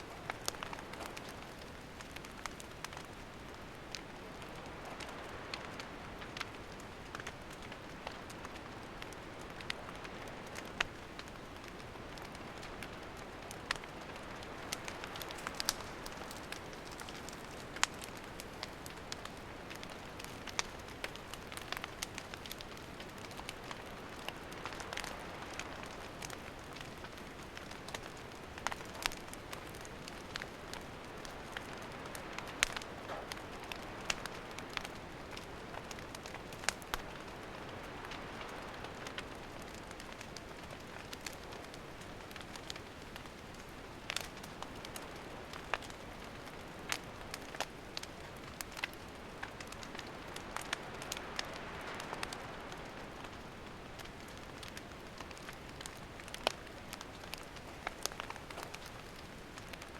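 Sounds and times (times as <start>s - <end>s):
campfire hissing: 0.0s - 59.9s
fire crackling and popping: 0.0s - 59.9s.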